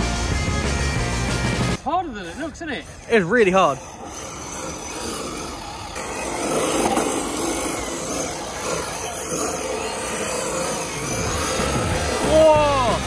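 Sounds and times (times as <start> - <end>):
electric motor whining: 1.3 - 13.0
tyres scrubbing on concrete: 1.7 - 13.0.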